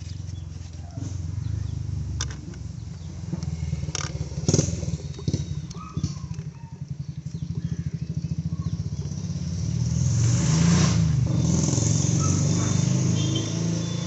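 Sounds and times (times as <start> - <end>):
small car engine running and revving: 0.0 - 14.0.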